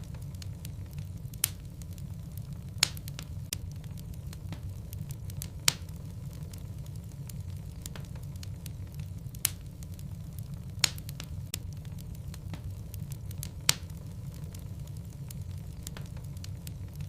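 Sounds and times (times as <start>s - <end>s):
burning wood popping: 0.0s - 17.0s
fire crackling: 0.0s - 17.0s
flame rumbling: 0.0s - 17.0s.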